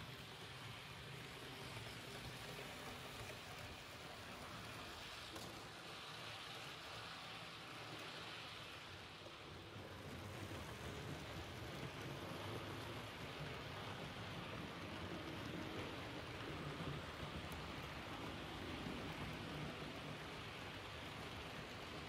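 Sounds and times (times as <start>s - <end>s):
model train rumbling on track: 0.0s - 22.0s.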